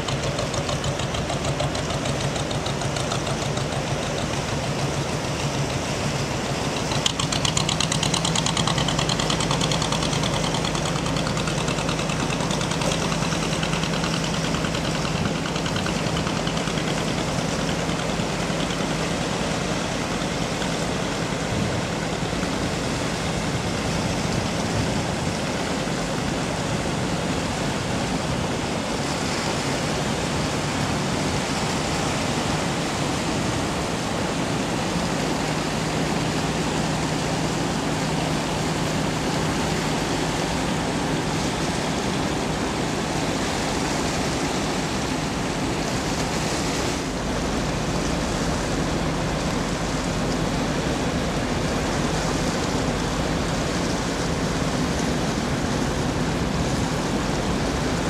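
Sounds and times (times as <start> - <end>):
ship wash churning water: 0.0 - 58.0.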